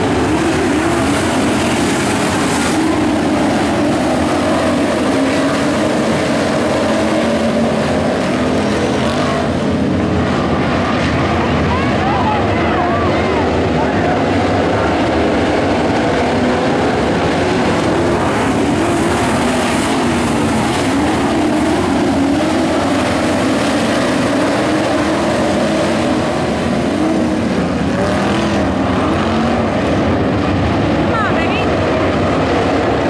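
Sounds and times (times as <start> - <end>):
race car engines roaring: 0.0 - 33.0.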